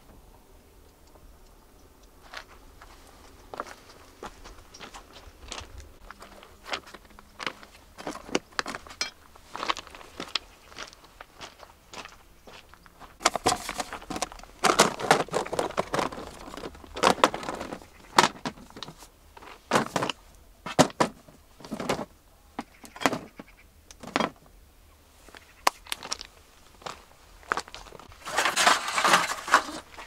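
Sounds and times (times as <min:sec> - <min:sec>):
camping gear clinking and rustling: 0:02.2 - 0:12.1, 0:13.1 - 0:24.5, 0:25.7 - 0:30.0.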